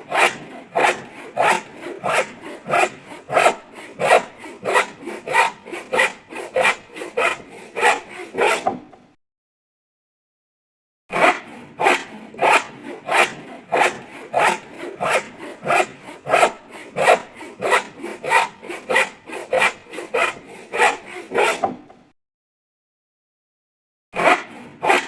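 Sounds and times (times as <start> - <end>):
hand saw cutting: 0.0 - 9.0, 11.1 - 22.0, 24.2 - 25.0.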